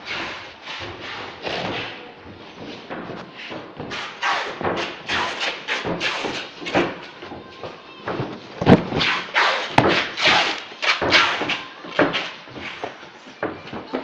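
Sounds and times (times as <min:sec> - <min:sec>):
cartons thudding and rustling: 0:00.0 - 0:14.0.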